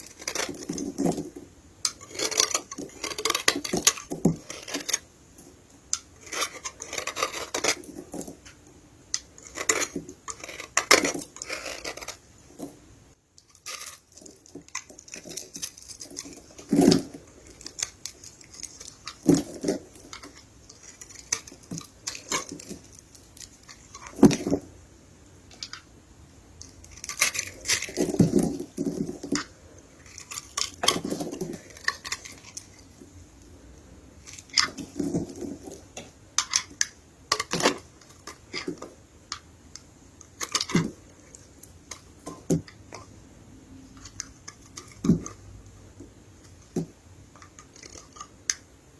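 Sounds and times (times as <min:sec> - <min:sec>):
dry soap crackling and crumbling: 0:00.0 - 0:12.8, 0:13.4 - 0:24.7, 0:26.6 - 0:43.2, 0:43.8 - 0:48.7.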